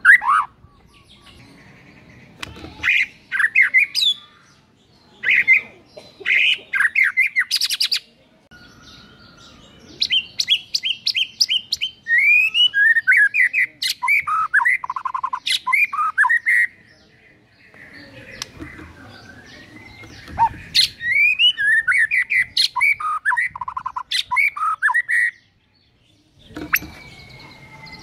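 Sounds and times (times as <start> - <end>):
bird singing varied phrases: 0.0 - 28.0.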